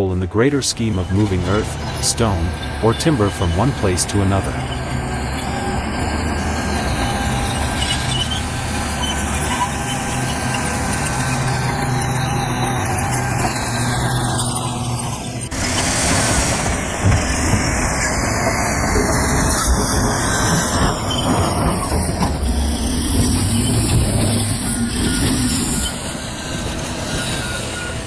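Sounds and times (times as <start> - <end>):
heavy machinery engine rumble: 0.0 - 28.0.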